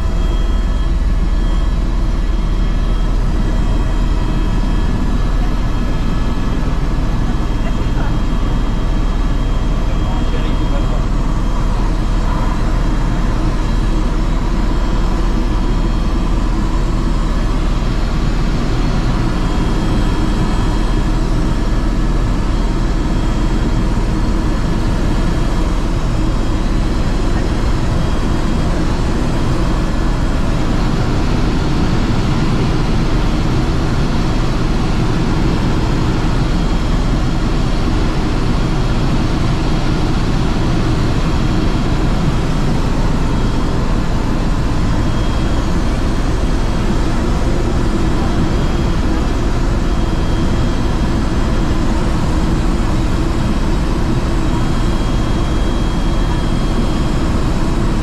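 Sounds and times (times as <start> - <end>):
faint constant whine: 0.0 - 58.0
helicopter cabin rumble: 0.0 - 58.0.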